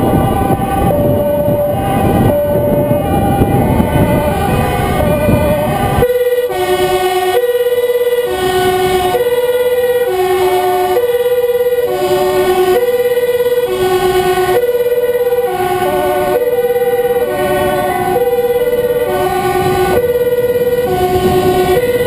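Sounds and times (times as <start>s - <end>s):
faint wavering siren: 0.0s - 22.0s
two-tone fire engine siren: 0.0s - 22.0s.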